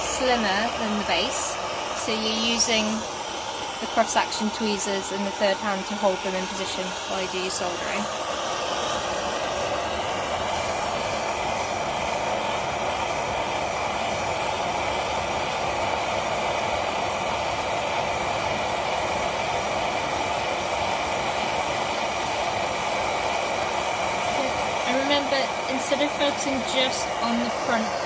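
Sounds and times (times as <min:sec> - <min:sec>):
gas torch hissing: 0:00.0 - 0:28.0.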